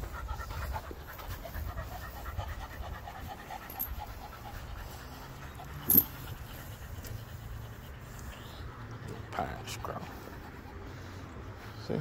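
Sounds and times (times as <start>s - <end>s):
dog panting fast: 0.0s - 12.0s.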